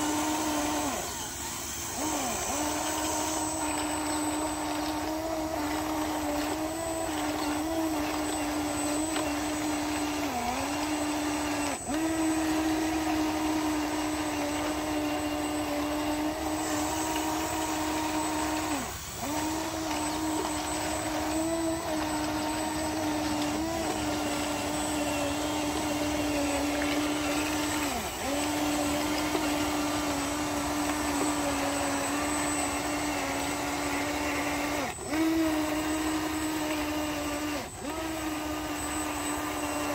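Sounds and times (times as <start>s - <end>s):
electric motors whining: 0.0s - 39.9s.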